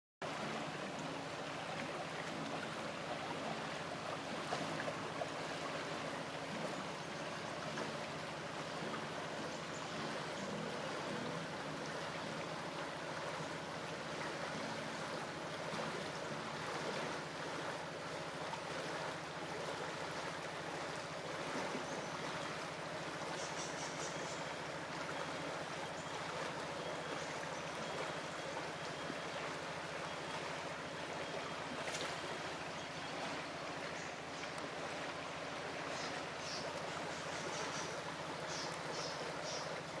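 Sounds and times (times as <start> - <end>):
river water rushing: 0.2 - 40.0.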